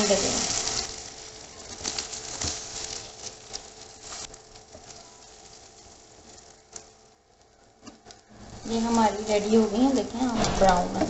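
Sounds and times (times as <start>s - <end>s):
cutlets sizzling in oil: 0.0s - 11.0s.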